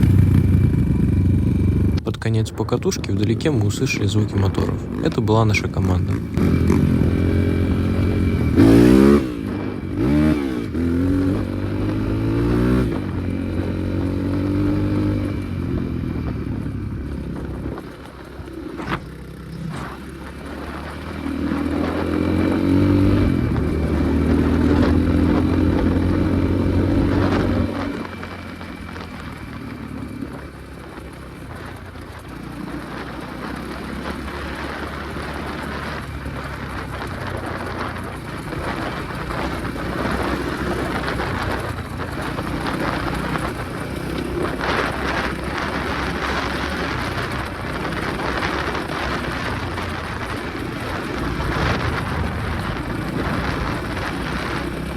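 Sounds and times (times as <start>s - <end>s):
motorcycle engine running: 0.0s - 54.9s
steady rushing rumble: 0.0s - 54.9s.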